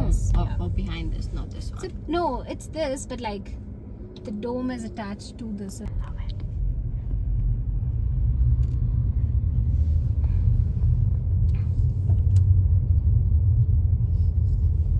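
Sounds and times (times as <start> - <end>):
car road rumble: 0.0 - 14.9.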